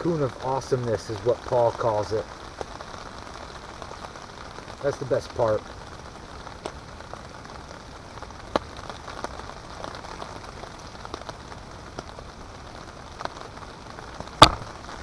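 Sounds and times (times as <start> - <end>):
light rain on a tarp: 0.0 - 15.0.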